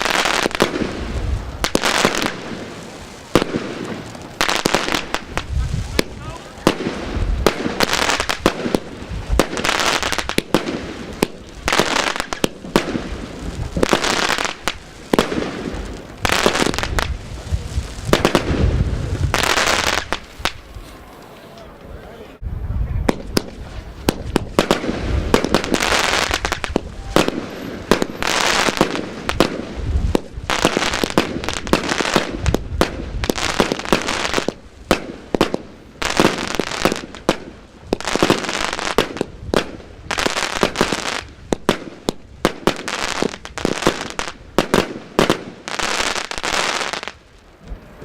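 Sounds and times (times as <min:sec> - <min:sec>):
firework bangs: 0:00.0 - 0:21.4, 0:23.0 - 0:48.0
hissing crackle: 0:00.0 - 0:21.9, 0:23.1 - 0:48.0.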